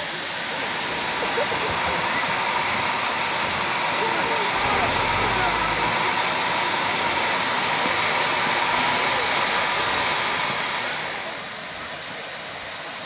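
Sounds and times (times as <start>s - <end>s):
faint voices: 0.0s - 12.4s
steam hissing: 0.0s - 13.0s.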